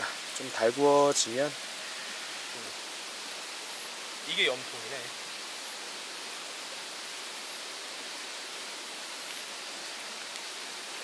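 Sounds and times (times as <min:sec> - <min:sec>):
steady forest hiss: 0:00.0 - 0:11.0
high-pitched insect trills: 0:00.1 - 0:11.0.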